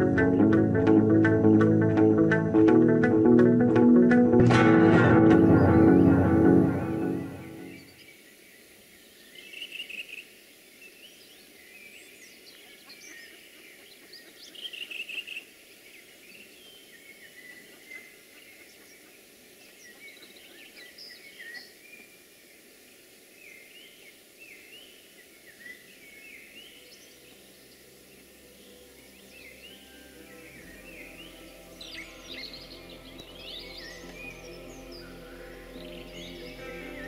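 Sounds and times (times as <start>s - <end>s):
songbirds chirping: 0.0s - 37.0s
faint steady hiss: 4.9s - 37.0s.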